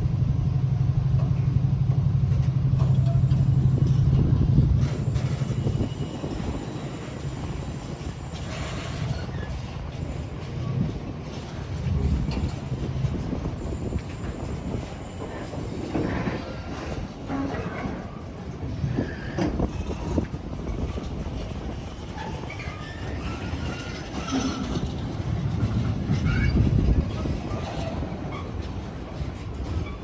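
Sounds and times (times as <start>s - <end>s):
train low drone: 0.0s - 30.0s
train rumbling on rails: 0.0s - 30.0s.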